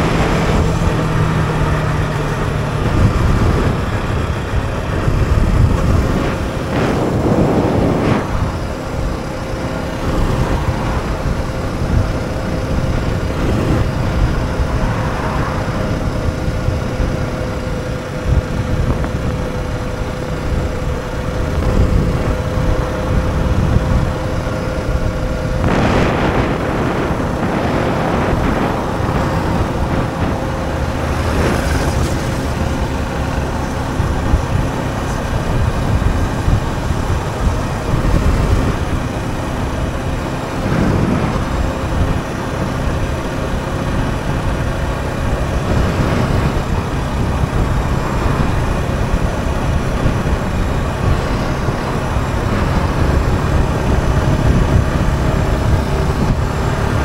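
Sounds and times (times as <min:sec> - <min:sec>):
motorcycle engine running: 0:00.0 - 0:57.0
rushes of noise: 0:00.0 - 0:57.0
wind and road noise: 0:00.0 - 0:57.0.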